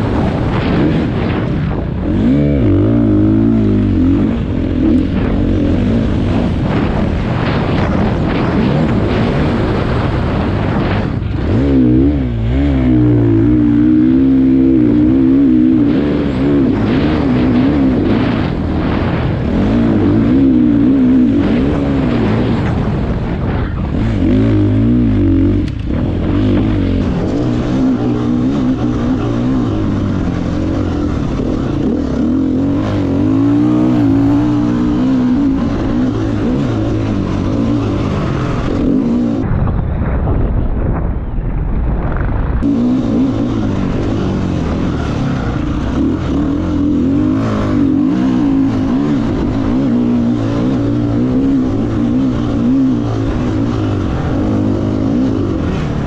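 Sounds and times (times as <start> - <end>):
motorcycle engine revving: 0.0 - 39.5, 42.6 - 56.0.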